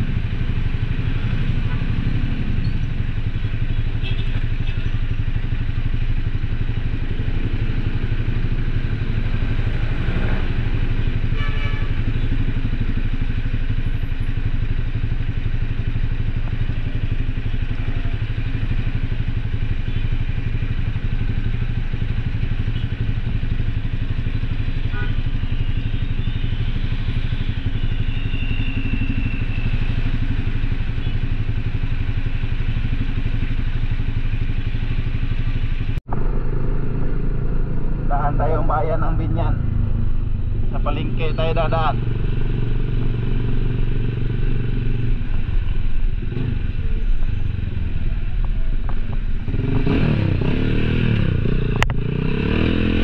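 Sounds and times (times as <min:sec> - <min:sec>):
engine running steadily: 0:00.0 - 0:53.0.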